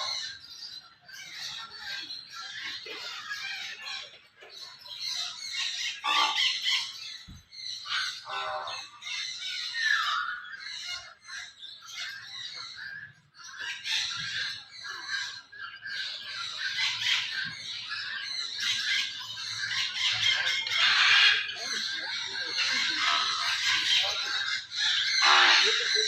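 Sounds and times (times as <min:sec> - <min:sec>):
small birds chirping and squawking: 0:00.0 - 0:26.0.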